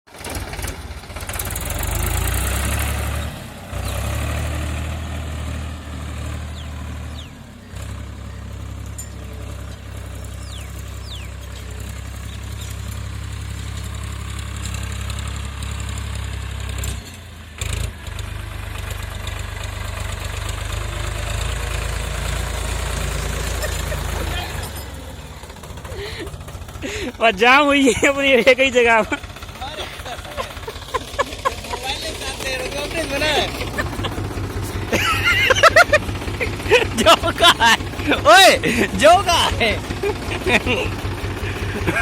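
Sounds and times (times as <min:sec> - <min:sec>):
vehicle engine rumbling: 0:00.1 - 0:42.0.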